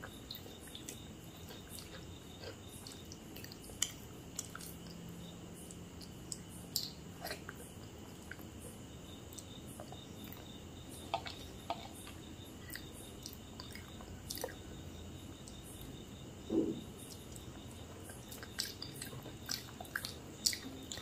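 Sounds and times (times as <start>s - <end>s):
person chewing with wet clicks: 0.0s - 16.0s, 17.0s - 21.0s.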